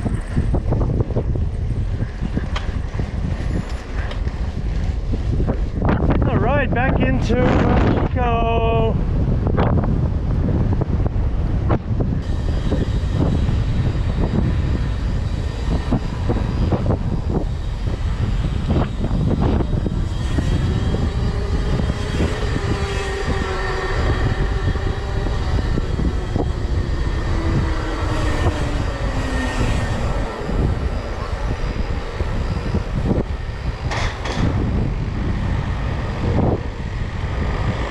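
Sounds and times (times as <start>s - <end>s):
road rumble: 0.0s - 37.9s
whine dropping in pitch: 0.0s - 37.9s
wind on microphone: 0.0s - 37.9s.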